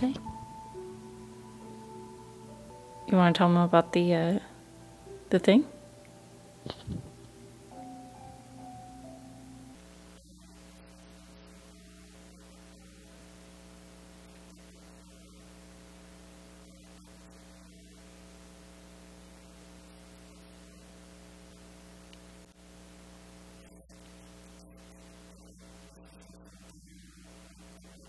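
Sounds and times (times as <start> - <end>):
faint mains hum: 0.0 - 28.0.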